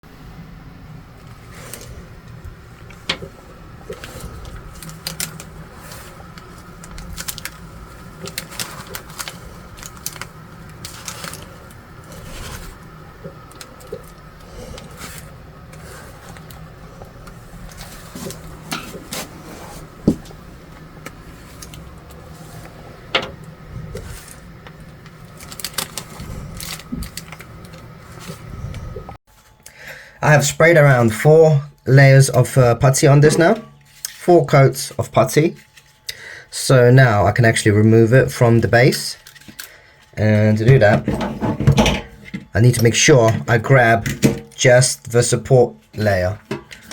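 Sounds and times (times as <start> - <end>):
faint steady hum: 0.1 - 46.9.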